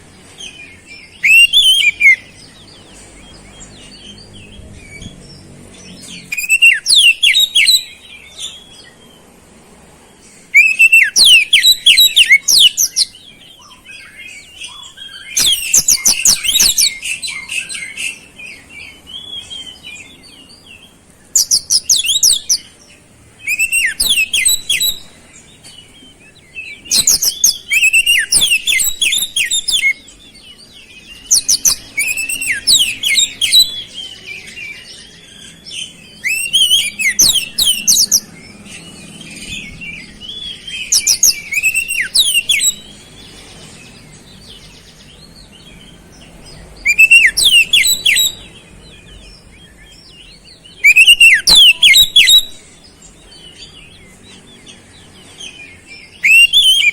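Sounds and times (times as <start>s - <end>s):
bird singing rapid high notes: 0.0s - 9.4s, 10.6s - 56.9s.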